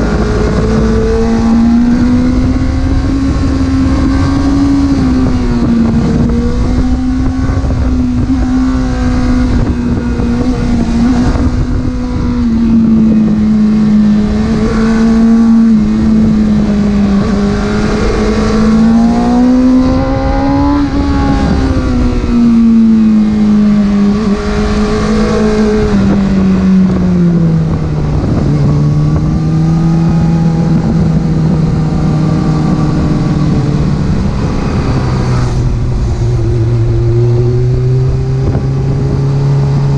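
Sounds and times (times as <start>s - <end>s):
car engine running while driving: 0.0s - 39.9s.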